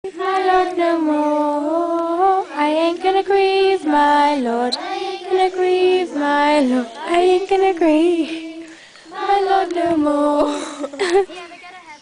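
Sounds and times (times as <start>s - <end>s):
girls singing in unison: 0.0s - 11.3s.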